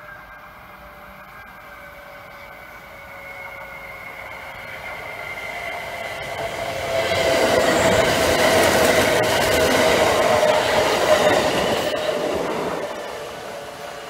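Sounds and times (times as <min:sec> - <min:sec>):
steady train whine: 0:00.0 - 0:14.0
train wheels rumbling on rails: 0:00.0 - 0:14.0.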